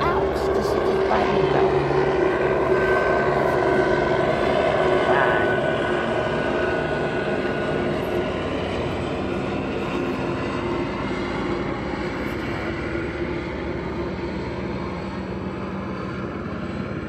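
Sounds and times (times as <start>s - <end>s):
engine-like drone: 0.0s - 17.0s.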